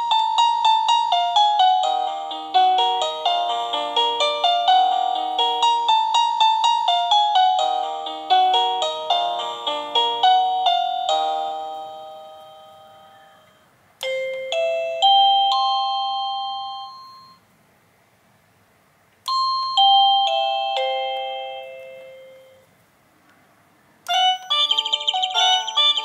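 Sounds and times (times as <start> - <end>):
doorbell chime: 0.0 - 17.4, 19.3 - 22.7, 24.1 - 26.0
doorbell electronic tune: 0.0 - 17.4, 19.3 - 22.6, 24.1 - 26.0.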